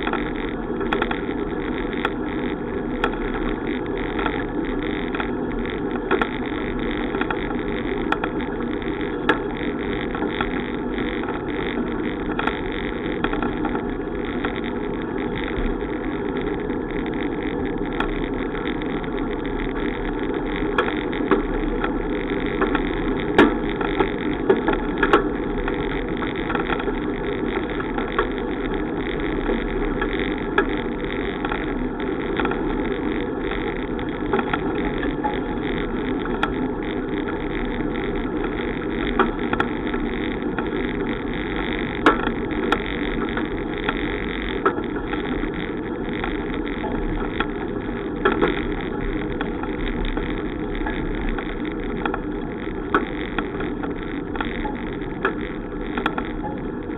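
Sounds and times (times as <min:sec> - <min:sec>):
bicycle clicks and rattles: 0:00.0 - 0:56.9
wind and road rush from bicycle: 0:00.0 - 0:56.9.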